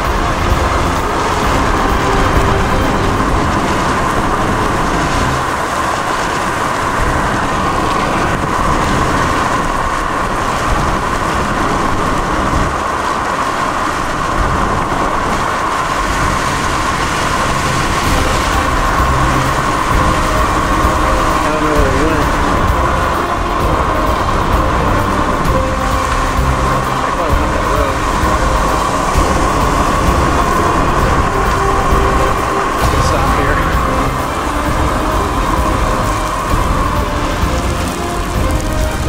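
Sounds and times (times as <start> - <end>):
vehicle road and wind noise: 0.0 - 39.0.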